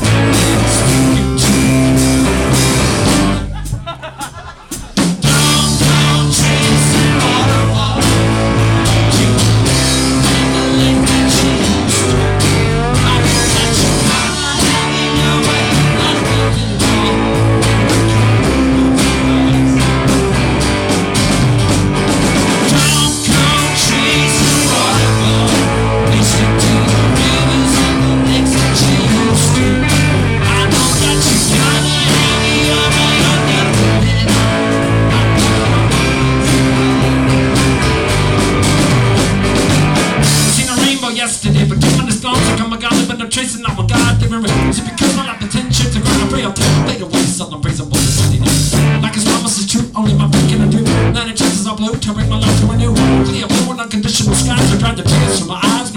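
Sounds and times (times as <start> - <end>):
rock band playing loud: 0.0 - 55.9.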